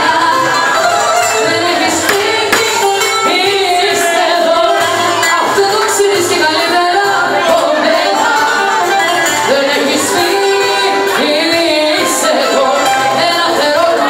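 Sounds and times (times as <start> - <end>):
loud amplified music: 0.0 - 14.0
woman singing into microphone: 0.0 - 14.0.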